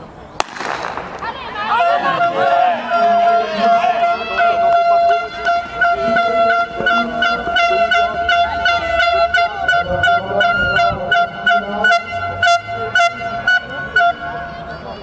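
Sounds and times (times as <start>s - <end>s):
crowd voices: 0.0s - 15.0s
horn long steady note: 1.5s - 14.9s.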